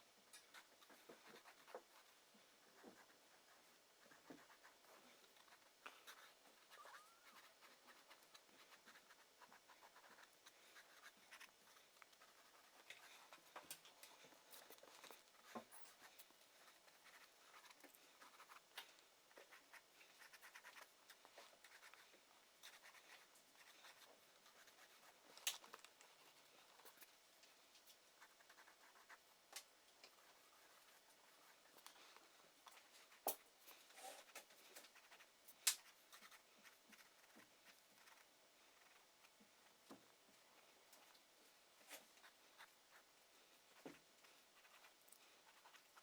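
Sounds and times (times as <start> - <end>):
pencil scratching on paper: 0.4 - 18.7, 19.3 - 27.2, 28.1 - 29.4, 30.1 - 39.3, 41.9 - 46.0.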